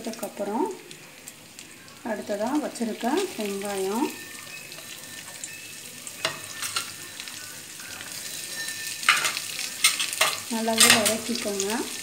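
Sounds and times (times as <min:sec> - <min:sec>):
oil sizzling in pan: 0:00.0 - 0:12.0
sharp spurts of sizzle: 0:00.0 - 0:12.0.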